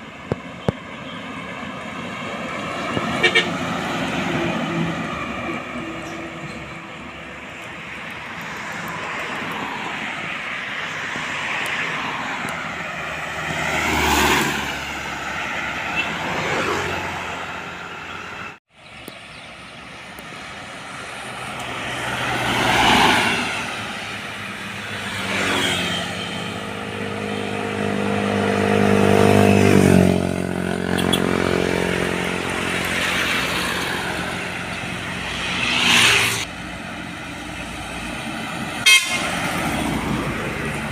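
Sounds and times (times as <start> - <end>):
road vehicles passing: 0.0 - 40.9.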